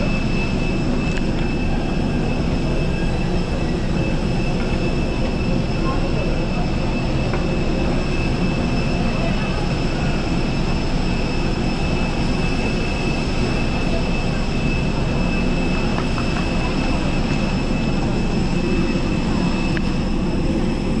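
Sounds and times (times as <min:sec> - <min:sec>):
high-pitched whine: 0:00.0 - 0:21.0.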